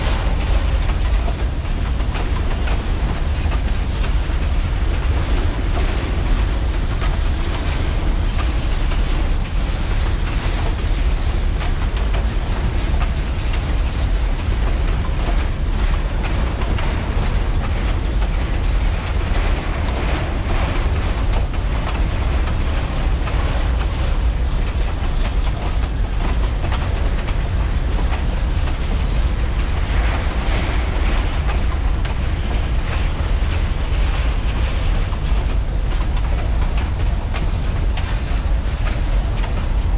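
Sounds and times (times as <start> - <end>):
fine clicking of rails: 0.0 - 39.9
train wheels rumbling on rails: 0.0 - 39.9.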